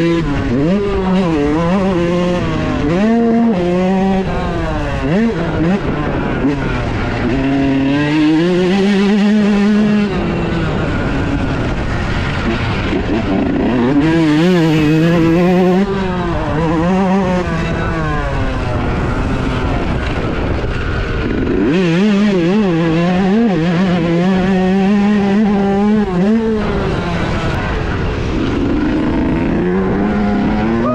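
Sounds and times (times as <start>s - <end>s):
two-stroke engine revving: 0.0s - 30.9s.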